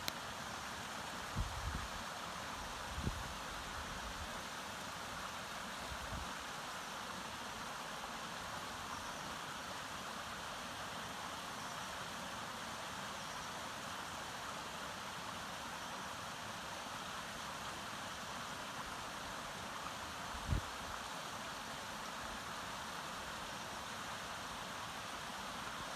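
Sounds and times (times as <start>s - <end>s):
stream running over rocks: 0.0s - 25.9s.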